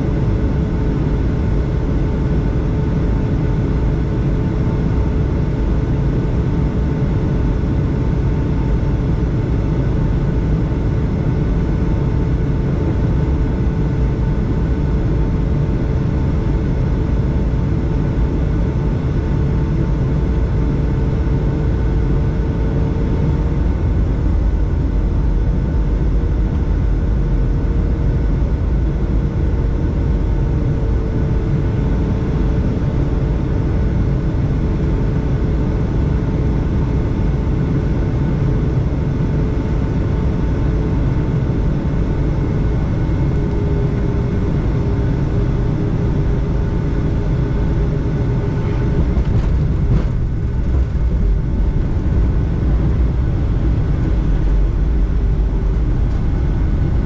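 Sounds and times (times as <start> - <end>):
airflow rumble in aircraft cabin: 0.0 - 57.0
jet engine hum: 0.0 - 57.0.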